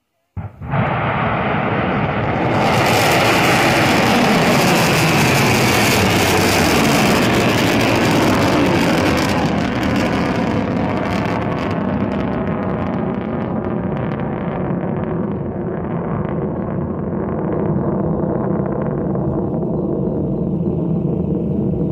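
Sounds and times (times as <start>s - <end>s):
rocket motor roaring: 0.6s - 21.9s.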